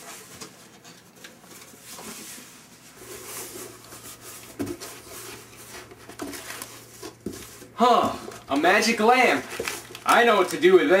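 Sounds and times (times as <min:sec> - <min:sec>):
cardboard flaps rustling: 0:00.0 - 0:11.0
items shifting in box: 0:00.0 - 0:11.0.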